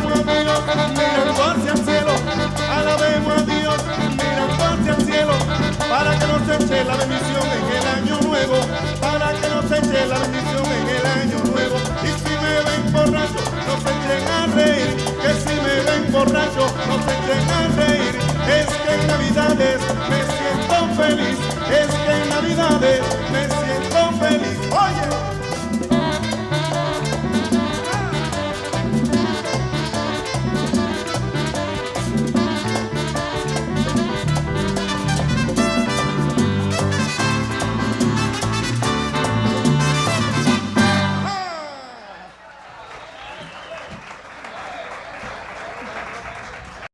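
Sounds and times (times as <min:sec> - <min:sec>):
repeating bass line: 0:00.0 - 0:41.3
brass: 0:00.0 - 0:41.8
latin dance band playing: 0:00.0 - 0:46.8.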